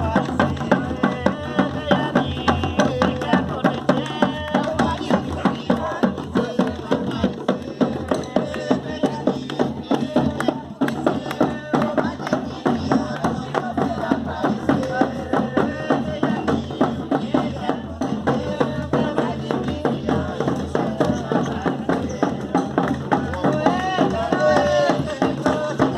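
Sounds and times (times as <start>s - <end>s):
drums beating fast rhythm: 0.0s - 25.9s
voices singing: 0.0s - 25.9s.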